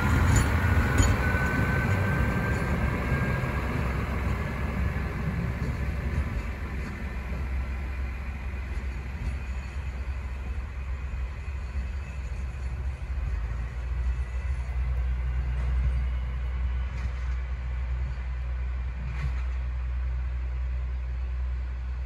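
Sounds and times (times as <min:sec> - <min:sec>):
diesel railcar engine humming: 0:00.0 - 0:22.0.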